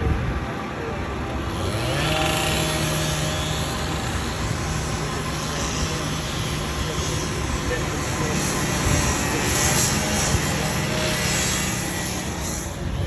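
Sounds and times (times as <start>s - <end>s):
traffic and road noise: 0.0s - 13.0s
vehicle engine revving: 1.1s - 12.8s.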